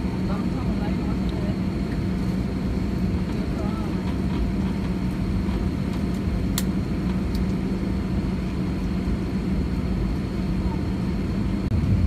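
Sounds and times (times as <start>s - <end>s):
aircraft cabin rumble: 0.0s - 12.0s
low hum: 0.0s - 12.0s.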